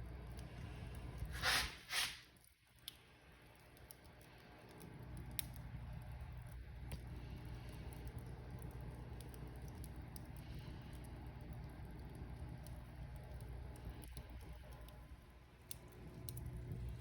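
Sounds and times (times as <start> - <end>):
fireplace fire crackling: 0.0 - 17.0.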